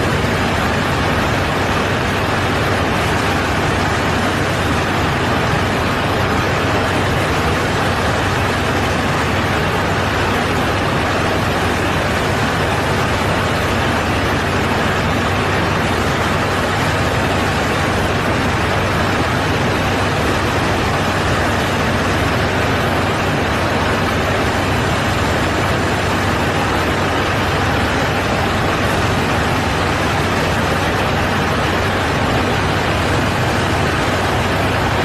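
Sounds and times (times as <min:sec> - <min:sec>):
aircraft engines and airflow: 0:00.0 - 0:35.0.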